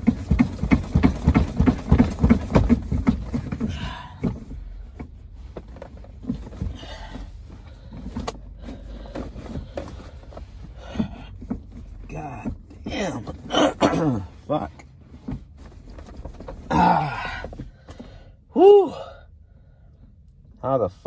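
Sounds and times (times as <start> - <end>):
car seat thumps and knocks: 0.0 - 14.3, 15.1 - 18.2.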